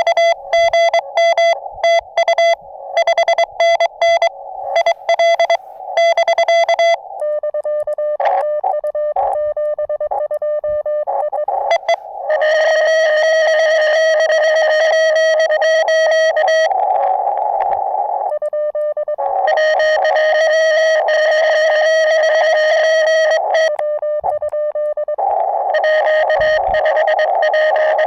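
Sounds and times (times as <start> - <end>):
morse code tone: 0.0 - 16.7, 18.4 - 28.0
radio receiver static: 0.0 - 18.4, 19.0 - 28.0.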